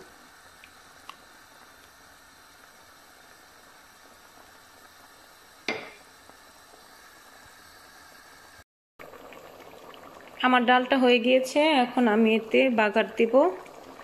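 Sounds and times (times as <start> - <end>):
pot boiling faint bubbling: 0.0 - 14.0.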